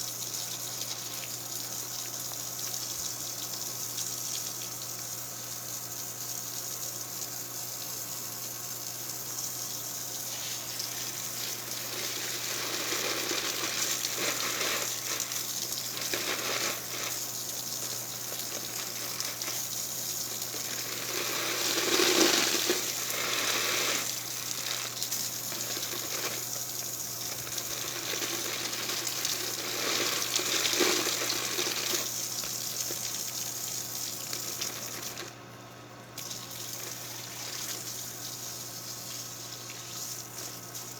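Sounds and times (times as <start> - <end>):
water running: 0.0 - 35.5, 36.1 - 40.9
faint steady hum: 0.0 - 40.9.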